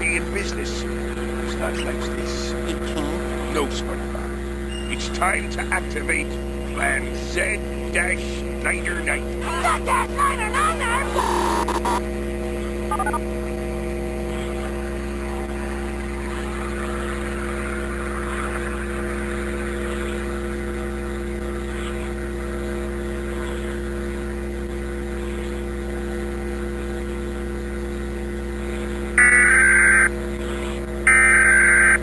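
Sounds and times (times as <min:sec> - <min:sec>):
low droning hum: 0:00.0 - 0:32.0.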